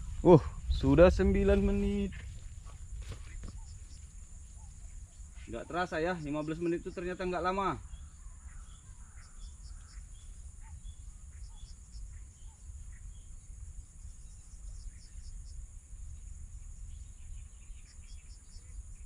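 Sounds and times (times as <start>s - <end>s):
bird calls: 0.0s - 19.0s
insects droning high-pitched: 0.0s - 19.0s.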